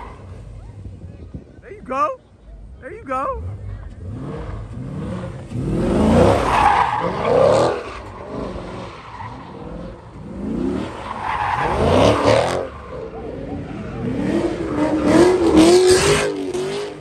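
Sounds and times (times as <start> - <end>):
car engine revving: 3.2 - 17.0.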